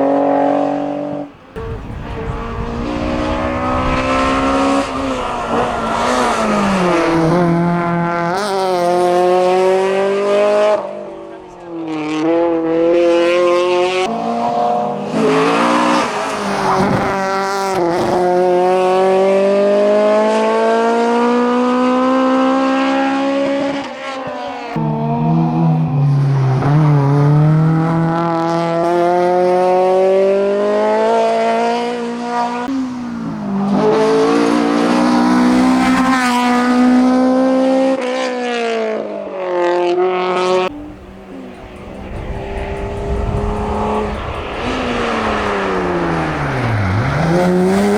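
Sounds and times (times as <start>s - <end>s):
racing car engine at full throttle: 0.0s - 47.9s.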